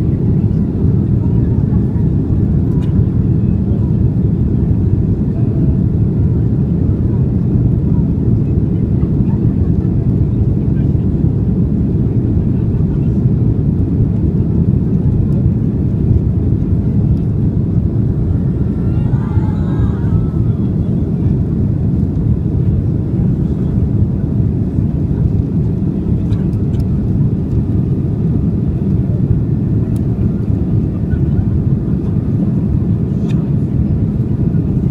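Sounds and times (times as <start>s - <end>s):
airplane engine rumble: 0.0s - 34.9s.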